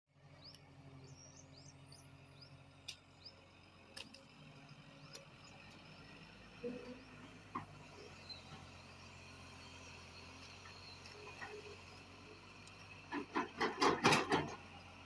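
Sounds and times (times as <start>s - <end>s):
excavator engine hum: 0.1s - 15.0s.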